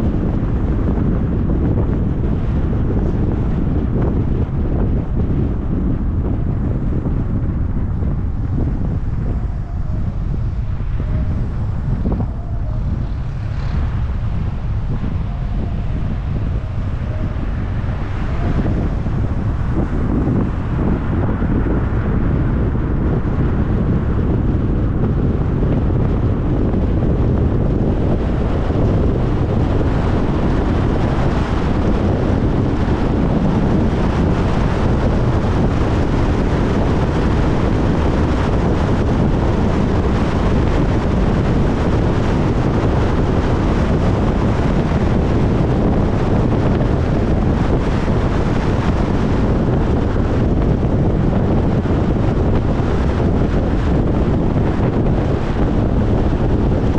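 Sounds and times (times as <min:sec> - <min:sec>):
car tyre and wind rumble: 0:00.0 - 0:56.9.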